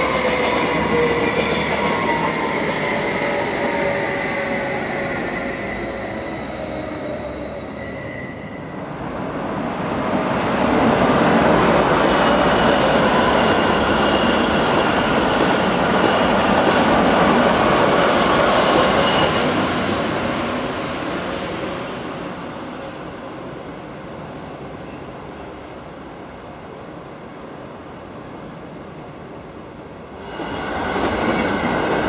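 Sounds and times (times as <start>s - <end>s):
train rolling on tracks: 0.0s - 32.0s.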